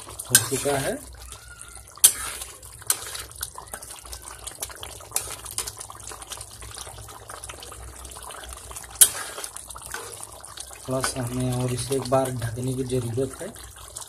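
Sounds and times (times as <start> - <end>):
curry simmering and bubbling: 0.0 - 14.0.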